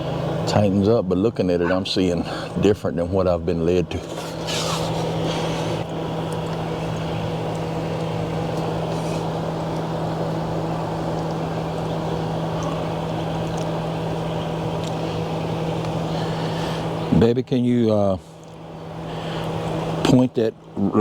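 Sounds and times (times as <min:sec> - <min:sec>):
machine drone low hum: 0:00.0 - 0:21.0.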